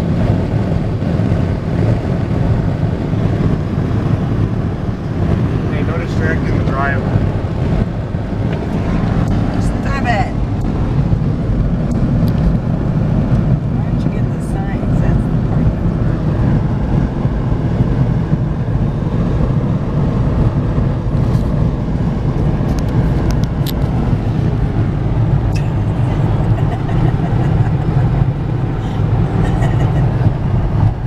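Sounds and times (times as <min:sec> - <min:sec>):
road and engine rumble in car: 0:00.0 - 0:31.0.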